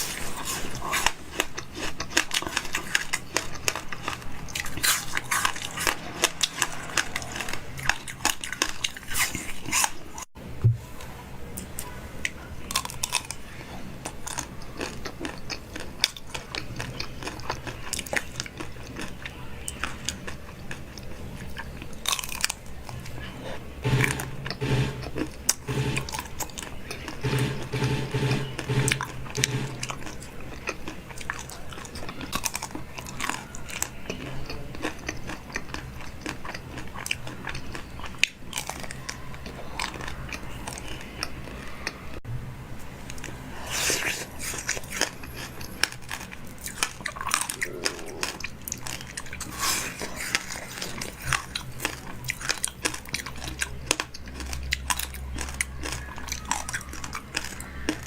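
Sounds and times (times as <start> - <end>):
chewing crunchy food: 0.0 - 10.4, 11.6 - 42.2, 43.0 - 58.0.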